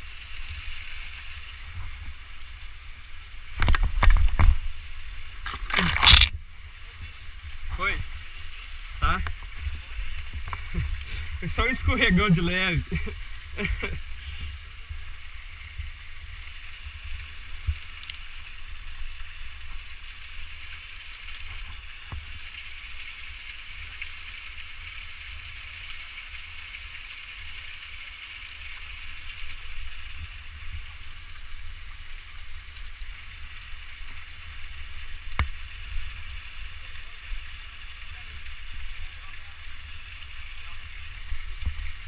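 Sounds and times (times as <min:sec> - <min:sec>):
waterfall rushing hiss: 0:00.0 - 0:42.0.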